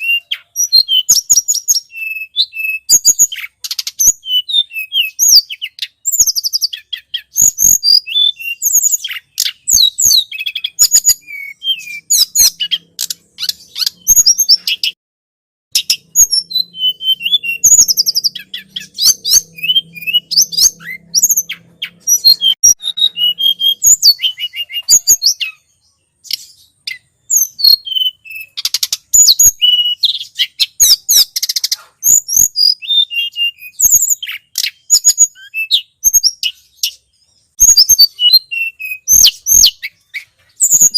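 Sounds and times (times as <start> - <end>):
bird high chirps and trills: 0.0 - 15.0, 15.7 - 40.9.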